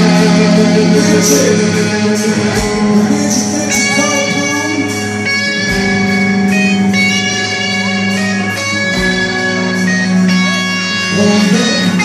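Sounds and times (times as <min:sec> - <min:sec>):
ringing electric guitar chords: 0:00.0 - 0:12.0
rock band playing: 0:00.0 - 0:12.0.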